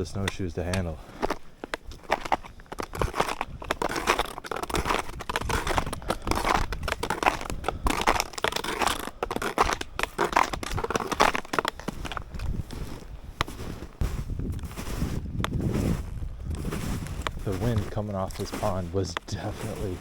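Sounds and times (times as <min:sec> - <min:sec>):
snowshoes crunching through snow: 0:00.0 - 0:20.0
wind rumbling on microphone: 0:01.8 - 0:20.0.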